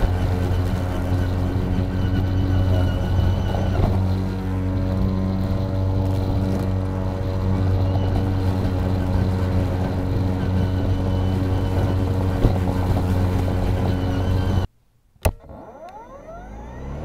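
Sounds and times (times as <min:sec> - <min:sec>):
lawn mower humming: 0:00.0 - 0:14.7, 0:15.5 - 0:17.0.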